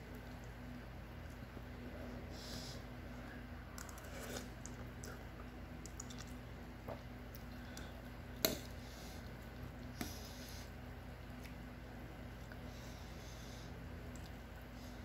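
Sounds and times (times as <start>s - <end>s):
soft eating sounds: 0.0s - 15.0s.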